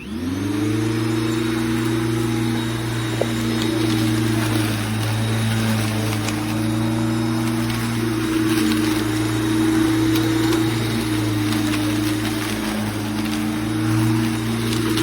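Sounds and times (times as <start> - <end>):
electric lawn mower humming: 0.0 - 15.0.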